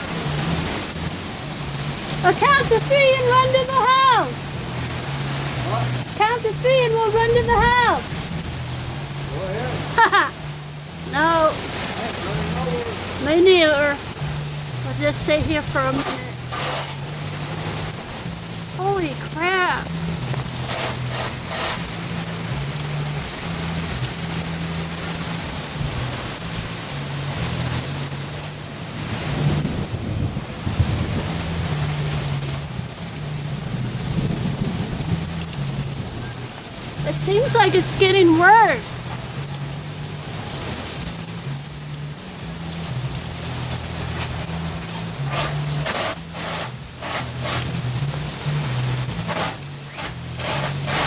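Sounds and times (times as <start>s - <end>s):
heavy rain pouring: 0.0s - 51.0s
low bass background music: 0.0s - 51.0s.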